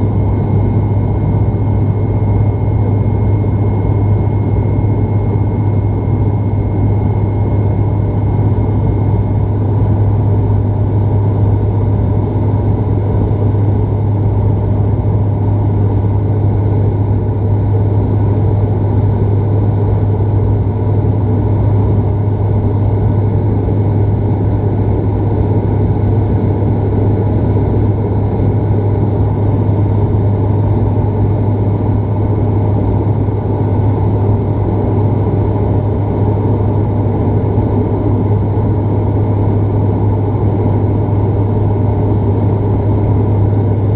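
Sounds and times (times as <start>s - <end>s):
turboprop propeller drone: 0.0s - 43.9s.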